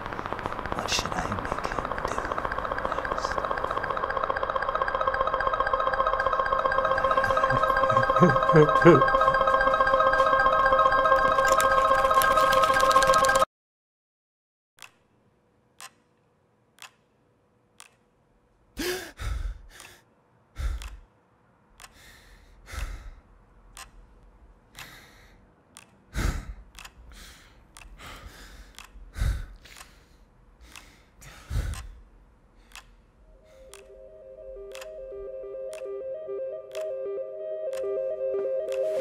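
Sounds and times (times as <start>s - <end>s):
clock ticking: 0.0s - 13.2s, 15.8s - 16.1s, 16.8s - 17.1s, 17.8s - 18.1s, 20.6s - 39.0s.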